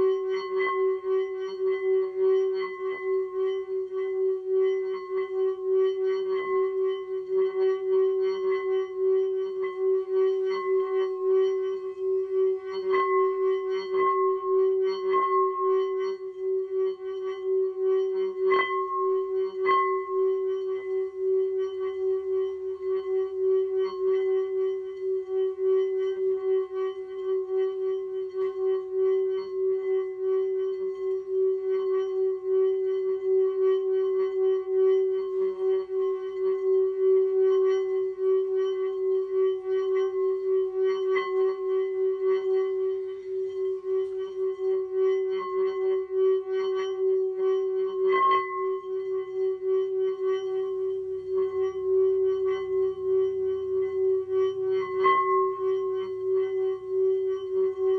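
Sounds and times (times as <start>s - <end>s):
singing bowl ringing tone: 0.0s - 57.9s.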